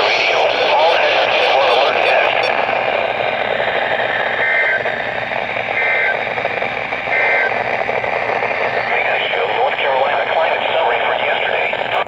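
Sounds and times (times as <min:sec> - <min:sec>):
two-tone digital data bursts: 0:00.0 - 0:10.0
radio static hiss: 0:00.0 - 0:12.0.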